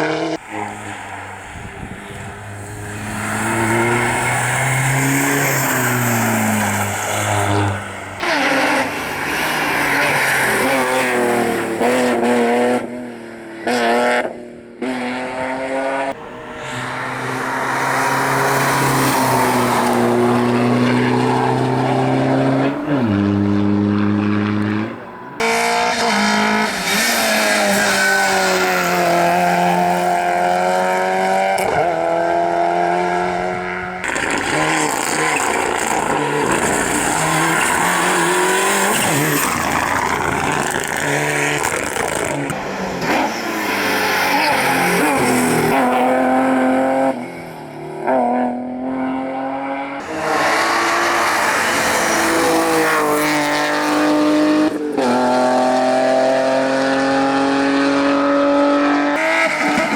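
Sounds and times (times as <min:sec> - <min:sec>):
rally car engines revving hard: 0:00.0 - 0:59.9.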